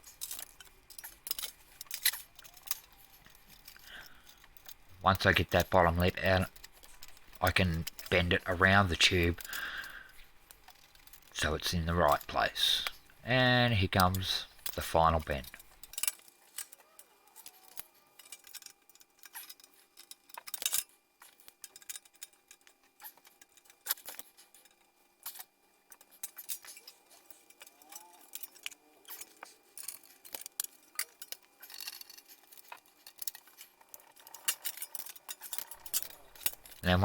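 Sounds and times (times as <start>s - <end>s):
sheet metal clicking and clinking: 0.0s - 11.4s, 14.0s - 37.0s.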